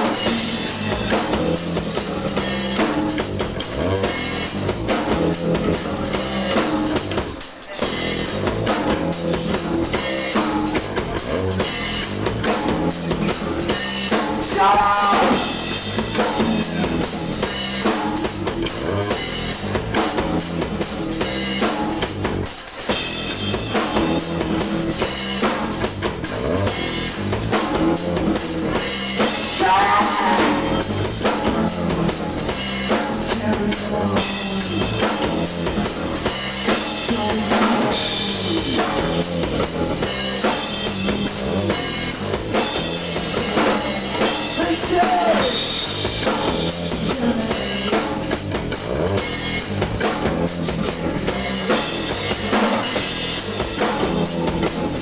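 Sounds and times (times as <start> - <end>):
drum kit: 0.0 - 55.0
live band playing loudly: 0.0 - 55.0.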